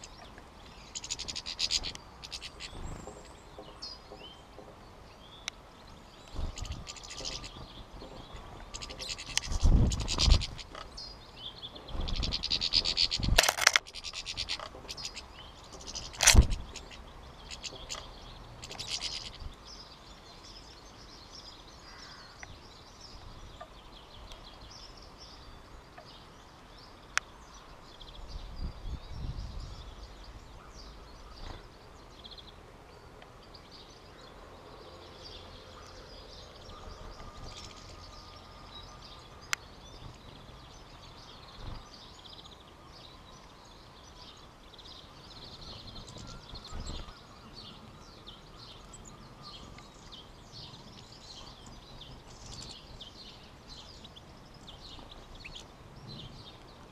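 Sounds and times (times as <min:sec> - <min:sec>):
birds twittering: 0:00.0 - 0:56.9.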